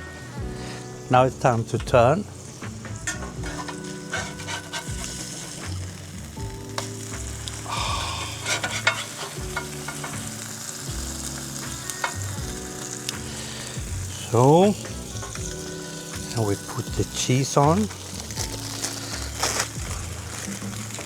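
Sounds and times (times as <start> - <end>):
burger patties sizzling on grill: 0.0 - 21.0
spatula scraping grill: 0.0 - 21.0.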